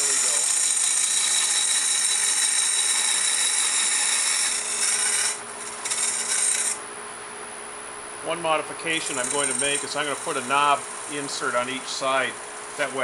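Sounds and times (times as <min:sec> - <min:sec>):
lathe humming: 0:00.0 - 0:06.8, 0:08.2 - 0:13.0
lathe tool cutting wood hiss: 0:00.0 - 0:06.8, 0:09.0 - 0:13.0.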